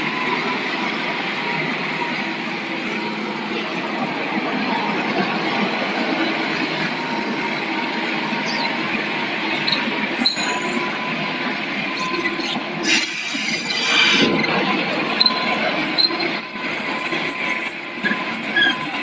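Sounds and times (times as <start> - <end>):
excavator diesel engine: 0.0 - 19.0
hydraulic whine: 0.0 - 19.0.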